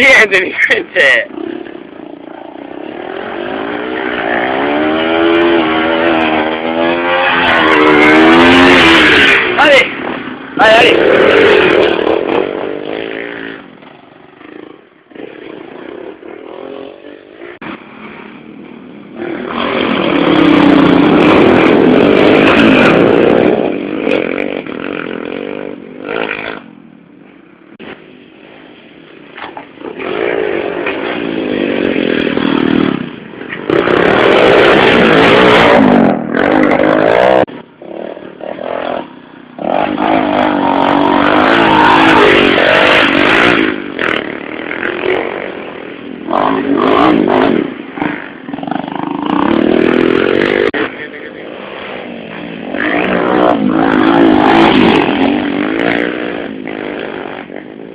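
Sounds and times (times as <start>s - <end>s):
distant motorcycle engines: 0.0s - 57.9s
motorcycles revving past: 1.2s - 26.8s, 29.3s - 57.9s.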